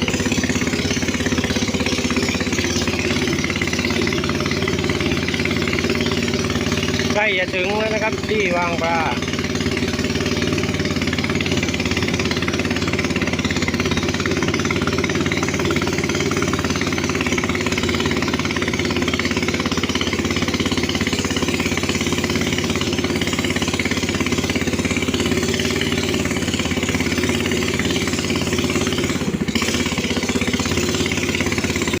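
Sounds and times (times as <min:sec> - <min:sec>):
boat engine rattling drone: 0:00.0 - 0:32.0.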